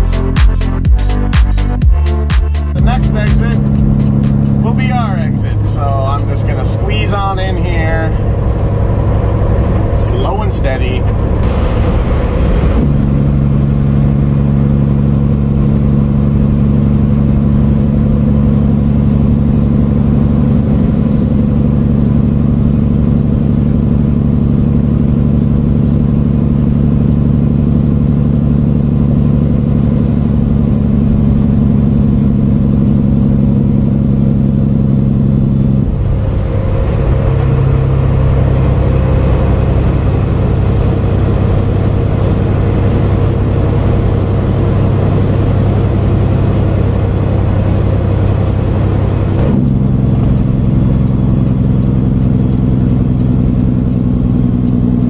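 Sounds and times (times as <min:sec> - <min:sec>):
road rumble: 0:00.0 - 0:55.0
truck diesel engine droning: 0:00.0 - 0:55.0.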